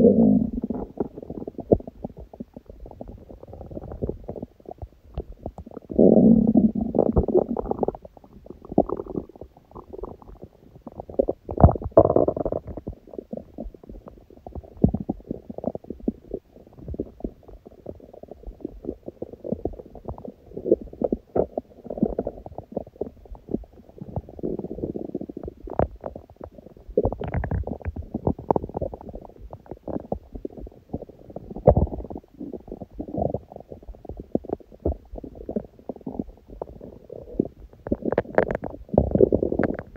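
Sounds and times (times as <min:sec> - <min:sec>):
stomach growling: 0:00.0 - 0:39.9.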